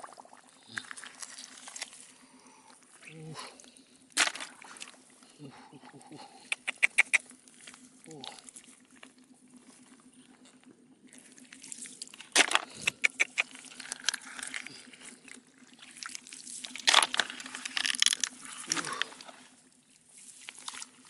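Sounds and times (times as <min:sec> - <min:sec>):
faint low hum: 0:00.0 - 0:21.0
water splashing and sloshing: 0:00.0 - 0:21.0.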